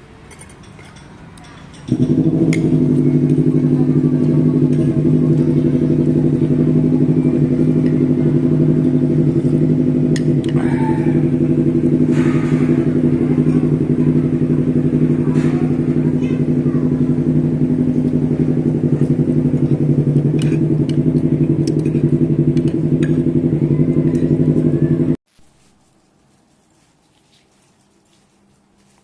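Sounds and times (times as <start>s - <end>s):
engine drone with fast flutter: 1.9s - 25.2s.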